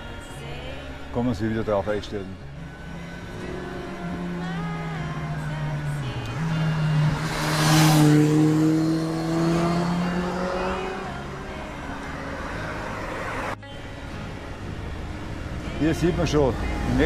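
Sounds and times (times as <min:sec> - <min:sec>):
vehicle passing and accelerating: 0:02.5 - 0:13.6, 0:14.2 - 0:17.0.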